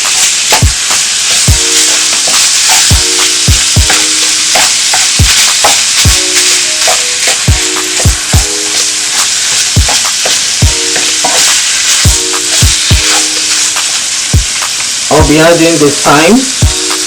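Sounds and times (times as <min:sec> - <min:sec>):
background music with a beat: 0:00.0 - 0:15.5, 0:16.5 - 0:17.0
meat sizzling in a pan: 0:00.0 - 0:17.0.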